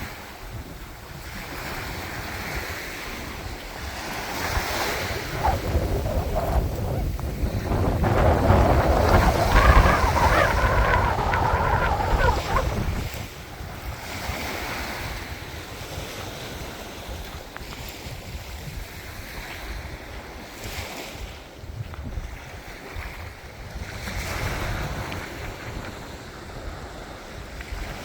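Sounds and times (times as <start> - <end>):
waves washing onto shore: 0.0 - 28.0
wind rumble on microphone: 0.0 - 28.0.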